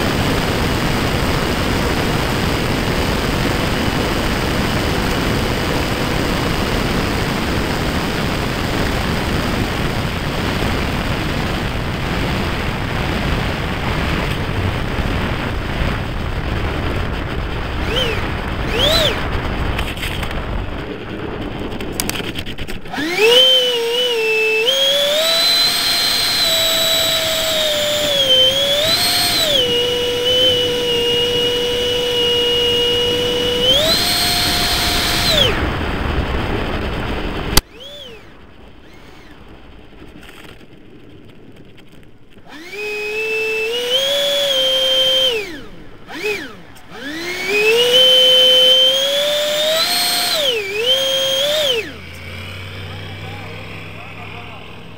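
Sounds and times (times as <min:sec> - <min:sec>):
model jet engine whining: 0:00.0 - 0:54.9.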